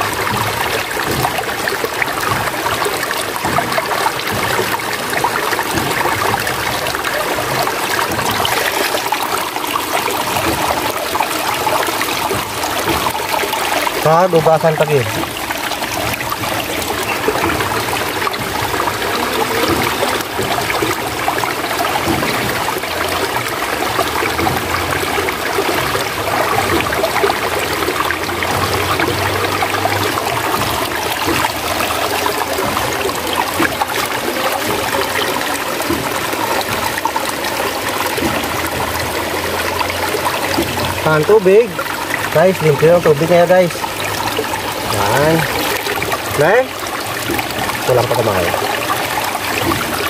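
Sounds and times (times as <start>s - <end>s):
water gushing from pipe spout: 0.0s - 50.0s
water splashing over tube: 0.0s - 50.0s.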